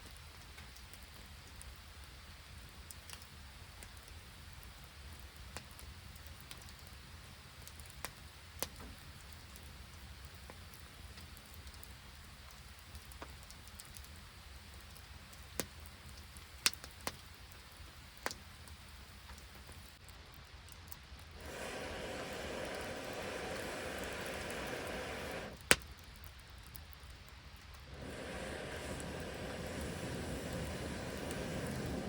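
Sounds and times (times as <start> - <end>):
rain falling steadily: 0.0 - 32.0.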